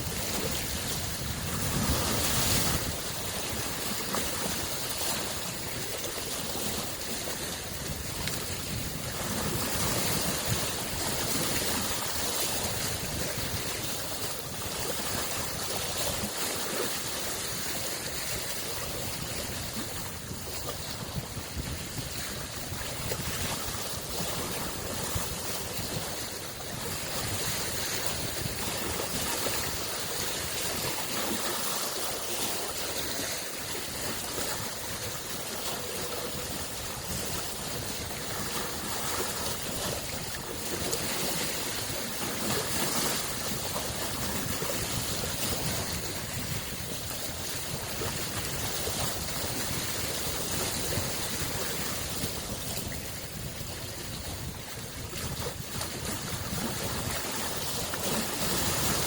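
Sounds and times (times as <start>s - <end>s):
waves lapping against shore: 0.0s - 59.0s.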